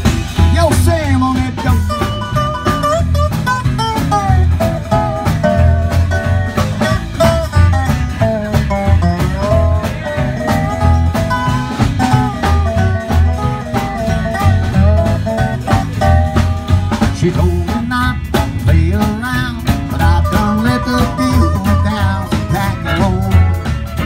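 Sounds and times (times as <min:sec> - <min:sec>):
country band playing: 0:00.0 - 0:24.0
plucked guitar: 0:00.0 - 0:24.0
steady bass beat: 0:00.0 - 0:24.0.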